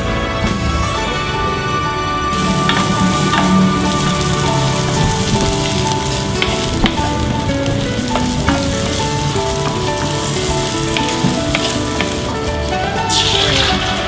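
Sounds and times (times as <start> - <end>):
garlic and onions sizzling in oil: 2.3 - 14.0.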